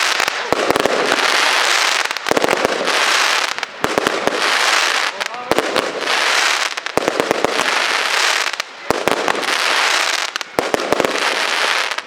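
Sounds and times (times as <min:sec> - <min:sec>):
firework crackling and bangs: 0:00.0 - 0:12.0.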